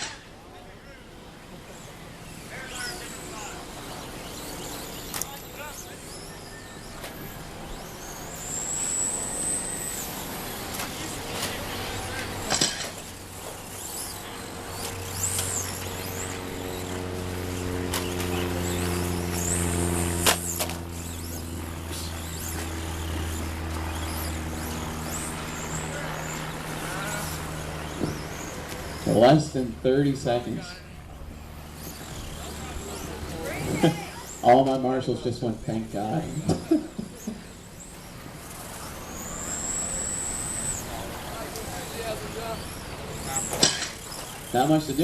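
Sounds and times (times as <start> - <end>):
rc truck motor whines: 1.2 - 45.0.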